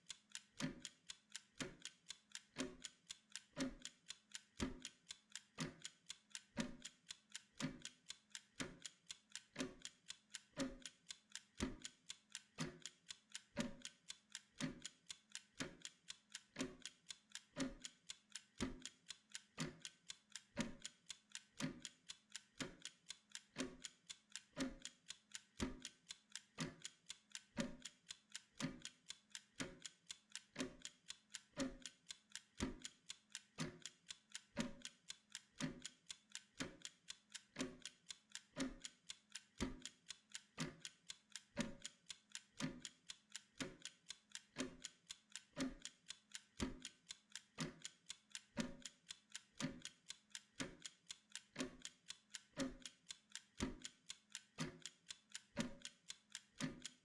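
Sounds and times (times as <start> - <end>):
kitchen timer ticking: 0.0 - 57.0.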